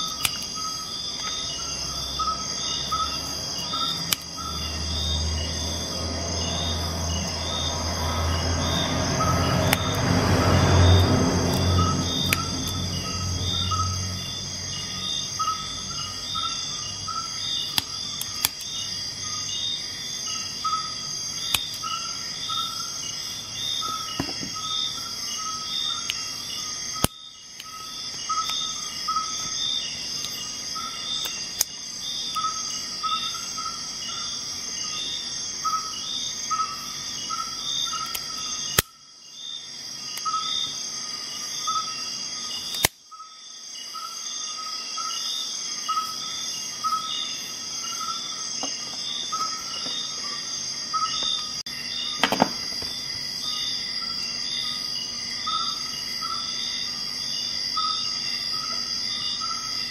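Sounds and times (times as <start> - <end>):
insect chorus chirring: 0.0 - 59.9
short repeating insect call: 0.0 - 59.9.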